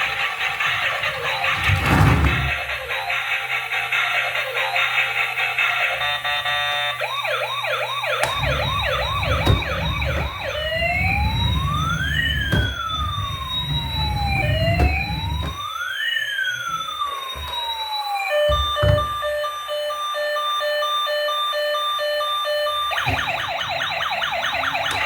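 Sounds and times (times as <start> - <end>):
emergency vehicle siren: 0.0 - 25.0.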